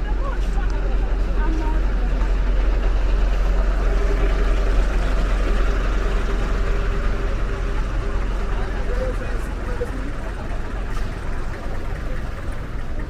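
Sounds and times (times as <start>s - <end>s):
street noise: 0.0s - 13.0s
vehicle engines rumbling: 0.0s - 13.0s.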